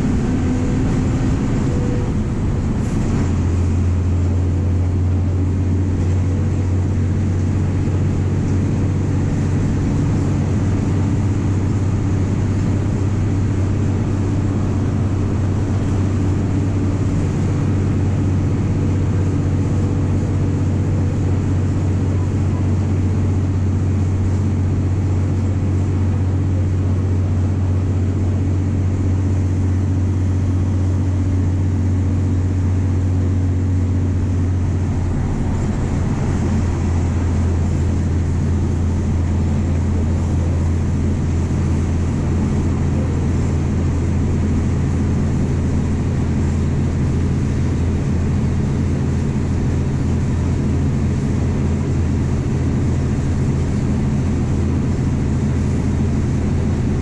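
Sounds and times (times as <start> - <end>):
bus engine drone: 0.0 - 57.0
road noise: 0.0 - 57.0.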